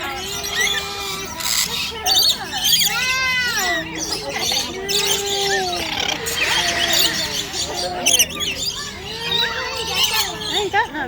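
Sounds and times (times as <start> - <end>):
drawn-out bird call: 0.0 - 10.8
lorikeets chattering: 0.0 - 11.0.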